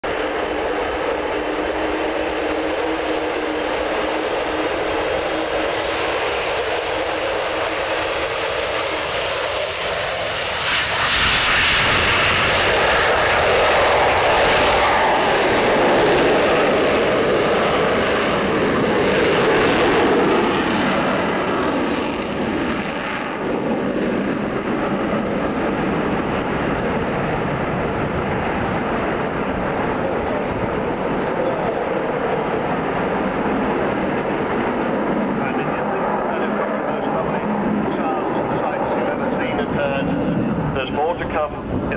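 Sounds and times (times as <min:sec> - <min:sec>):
jet aircraft roaring at take-off: 0:00.0 - 0:41.9.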